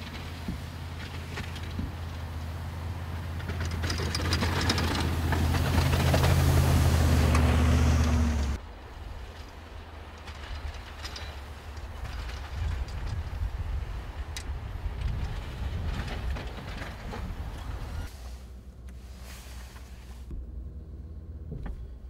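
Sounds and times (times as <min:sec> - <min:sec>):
truck engine running under load: 0:00.0 - 0:22.0.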